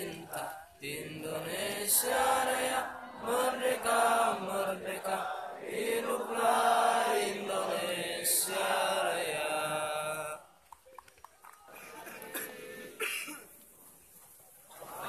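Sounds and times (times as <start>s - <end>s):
many voices chanting in unison: 0.0s - 10.6s, 11.6s - 13.0s, 14.7s - 15.0s.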